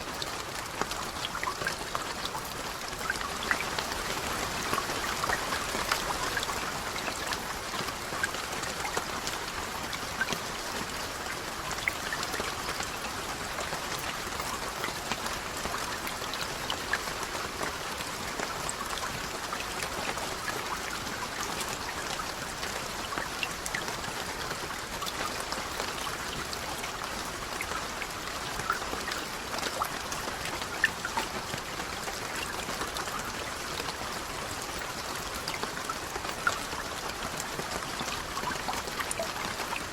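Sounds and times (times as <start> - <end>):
raindrops ticking: 0.0 - 39.9
steady rain: 0.0 - 39.9.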